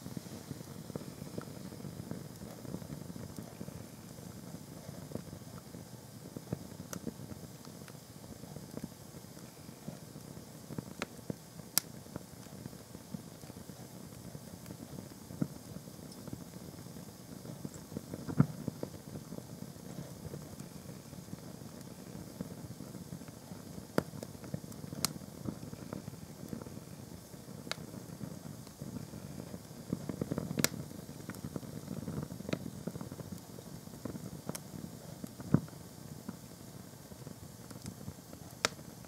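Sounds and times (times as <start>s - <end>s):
flames fluttering: 0.0s - 39.0s
sharp crackling pops: 0.1s - 39.0s.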